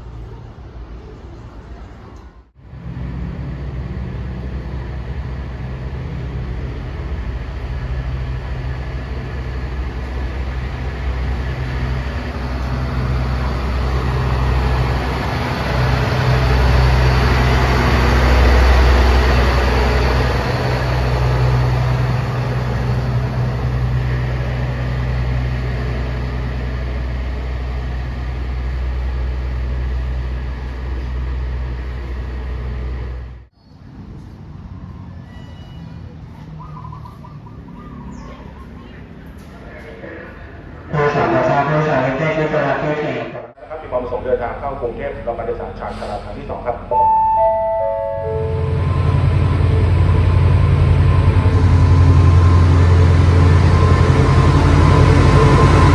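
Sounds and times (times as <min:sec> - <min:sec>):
diesel train engine throb: 0:00.0 - 0:35.3, 0:37.4 - 0:55.9
wheels rumbling on rails: 0:00.0 - 0:40.9, 0:44.0 - 0:55.9.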